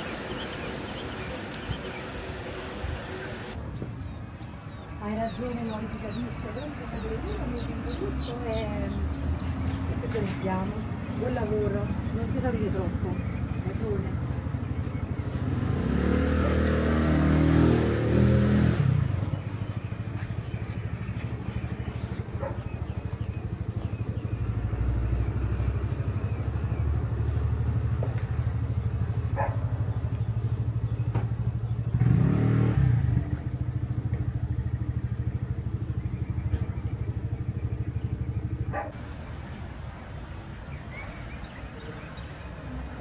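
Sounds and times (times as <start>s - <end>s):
vehicle engine running: 5.2s - 40.5s.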